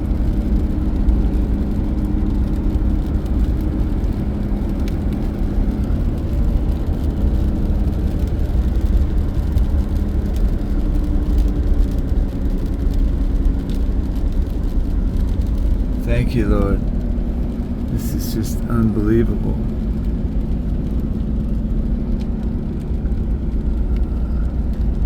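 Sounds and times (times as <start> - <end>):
car driving heard from cabin: 0.0 - 25.0
faint engine hum: 0.0 - 25.0.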